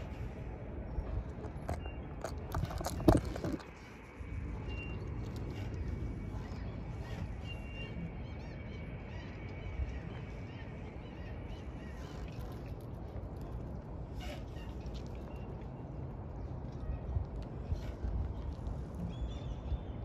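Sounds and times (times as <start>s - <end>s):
distant traffic: 0.0s - 20.0s
wind: 0.0s - 20.0s.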